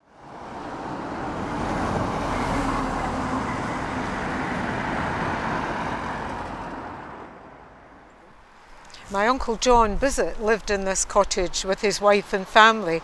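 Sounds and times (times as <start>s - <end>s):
lorry and cars driving by: 0.0s - 13.0s
road traffic passing: 0.0s - 13.0s.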